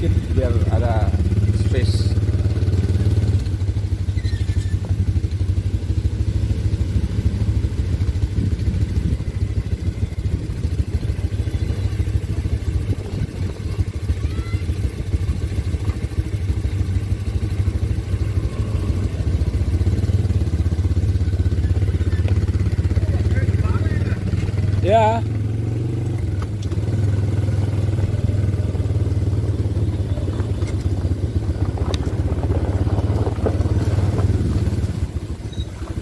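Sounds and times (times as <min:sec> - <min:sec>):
quad bike engines droning: 0:00.0 - 0:36.0.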